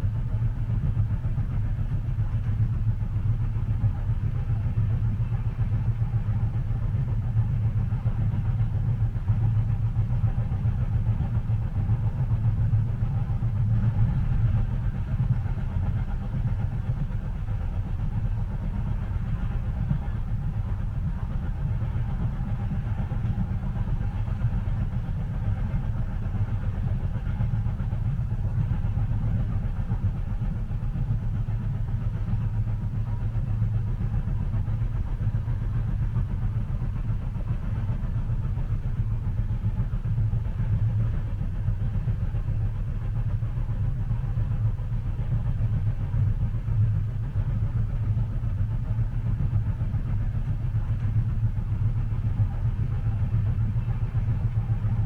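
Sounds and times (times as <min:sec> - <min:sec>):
train rumble inside cabin: 0:00.0 - 0:55.0.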